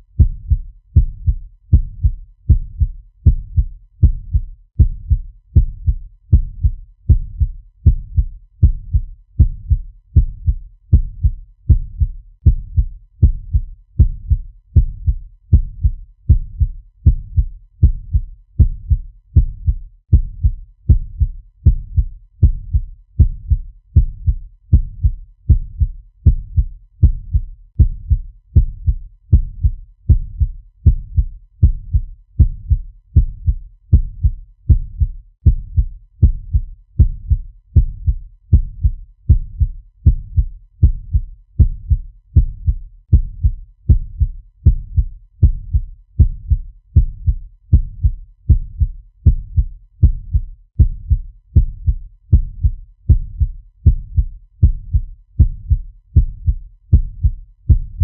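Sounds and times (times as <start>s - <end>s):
fast heartbeat thumps: 0.2s - 58.0s.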